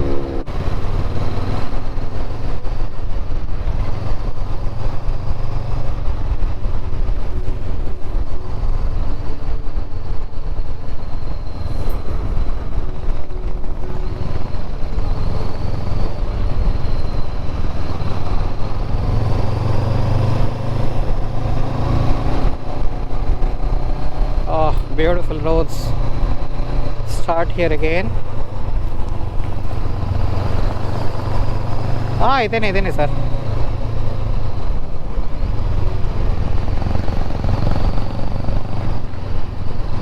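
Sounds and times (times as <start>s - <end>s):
motorcycle engine running: 0.0s - 40.0s
road noise: 0.0s - 40.0s
wind: 0.0s - 40.0s.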